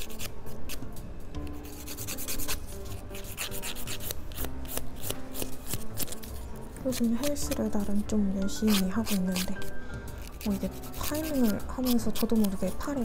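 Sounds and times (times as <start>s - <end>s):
nail file scraping fingernails: 0.0s - 13.0s.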